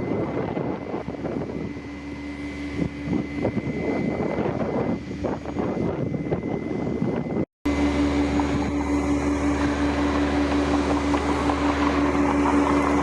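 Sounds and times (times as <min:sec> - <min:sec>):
low drone: 0:00.0 - 0:13.0
mechanical hum with pitched tone: 0:00.0 - 0:13.0
noisy outdoor rumble: 0:00.0 - 0:13.0.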